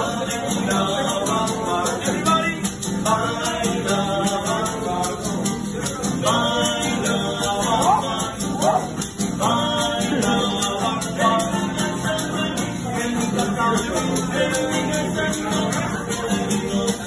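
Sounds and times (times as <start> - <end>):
person singing: 0.0 - 17.0
shaken percussion rattle: 0.0 - 17.0.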